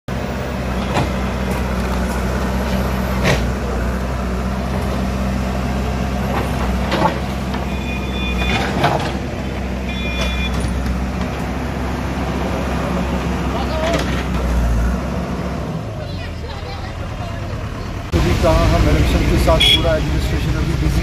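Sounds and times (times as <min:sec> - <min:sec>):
diesel engine running: 0:00.1 - 0:21.0.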